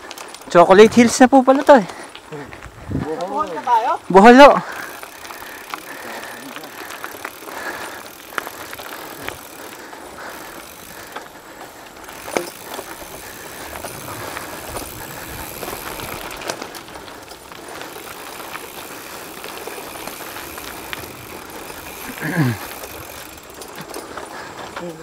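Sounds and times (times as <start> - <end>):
bike rattles and knocks: 0.0 - 25.0
bike rolling over dirt trail: 0.0 - 25.0.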